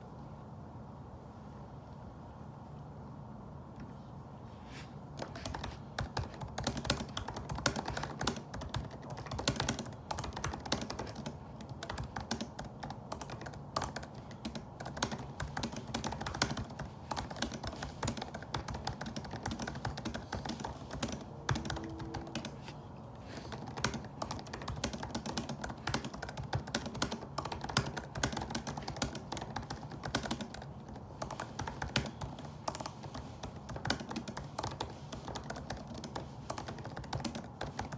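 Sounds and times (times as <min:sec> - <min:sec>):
fast typing on laptop keyboard: 0:05.2 - 0:22.7, 0:23.3 - 0:37.9.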